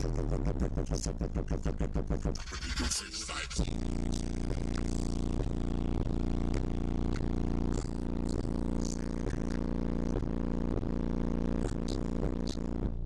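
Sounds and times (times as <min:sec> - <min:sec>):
loud bass-heavy music: 0:00.0 - 0:13.0.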